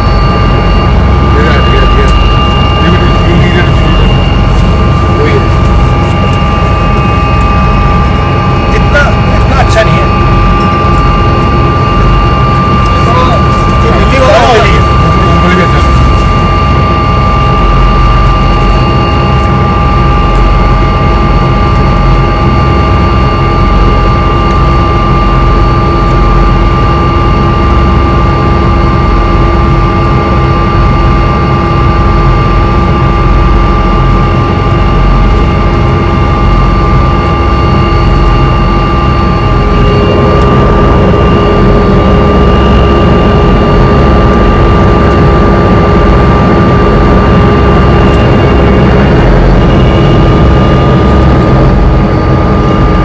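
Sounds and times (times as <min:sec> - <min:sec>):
helicopter engine and rotor drone: 0:00.0 - 0:53.0
high whining tones: 0:00.0 - 0:53.0.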